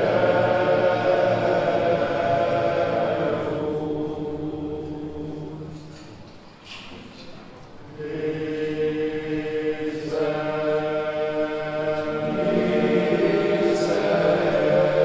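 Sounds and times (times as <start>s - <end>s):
choir chanting sacred music: 0.0s - 7.0s, 7.6s - 15.0s.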